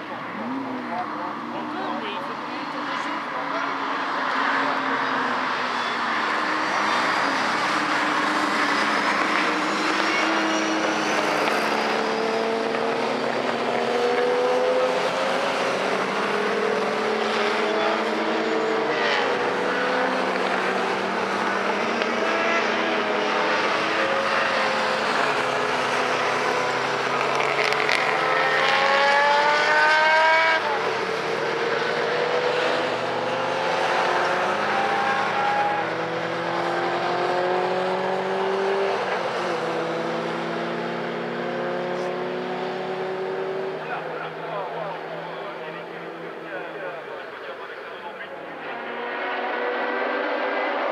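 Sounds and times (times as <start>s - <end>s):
racing car engines at full throttle: 0.0s - 50.9s.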